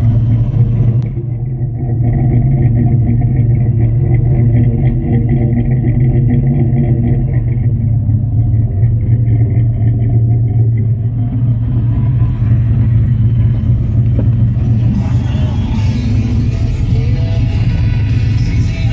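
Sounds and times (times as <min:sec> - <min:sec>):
engine idling exhaust rumble: 0:00.0 - 0:18.9.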